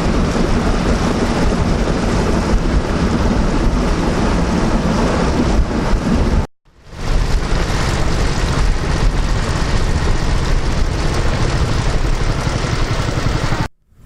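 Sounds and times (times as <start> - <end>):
wind noise on microphone: 0.0 - 13.7
boat engine running: 0.0 - 14.0.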